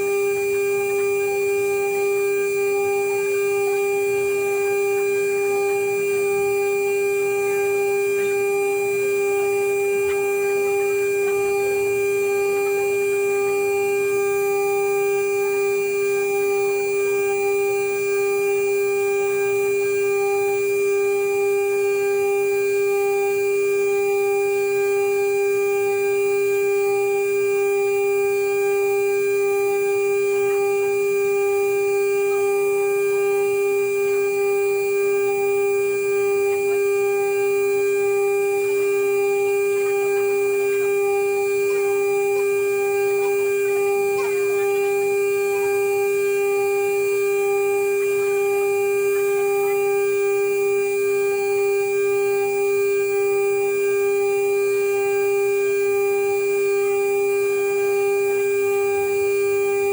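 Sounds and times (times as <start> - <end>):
cnc router spindle whine: 0.0 - 59.9.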